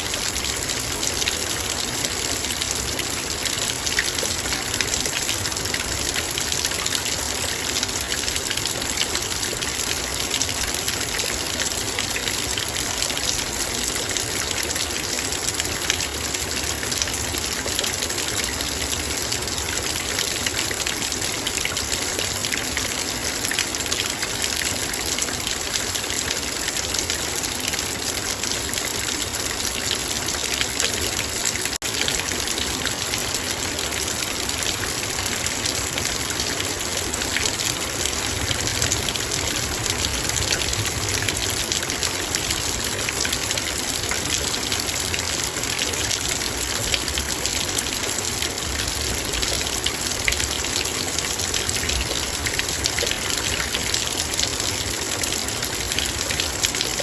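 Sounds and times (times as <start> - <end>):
heavy rain on a metal bowl: 0.0 - 57.0.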